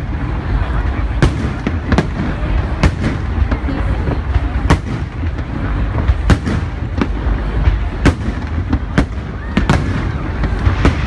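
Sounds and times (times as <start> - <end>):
fireworks bangs: 0.0 - 11.0
low rumble of explosions: 0.0 - 11.0.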